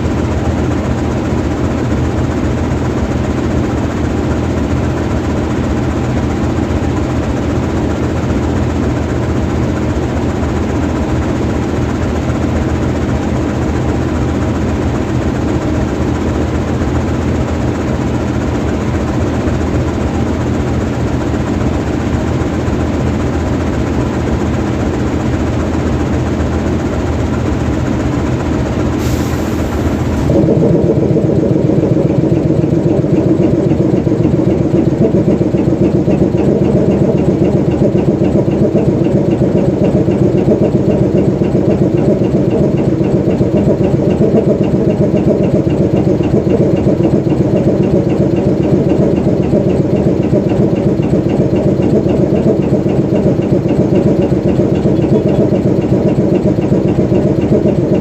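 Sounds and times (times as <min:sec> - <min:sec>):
locomotive diesel engine idling: 0:00.0 - 0:58.0.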